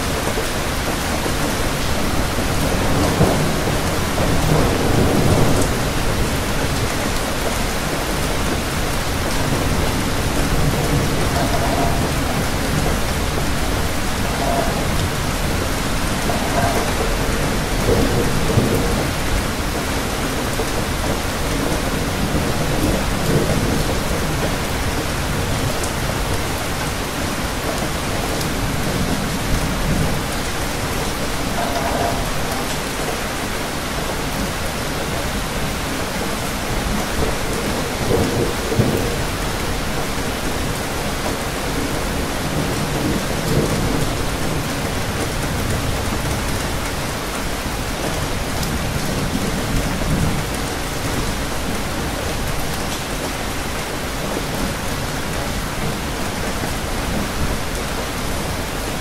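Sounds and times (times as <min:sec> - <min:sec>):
distant thunder rumbling: 0:00.0 - 0:52.9
rain falling: 0:00.0 - 0:59.0.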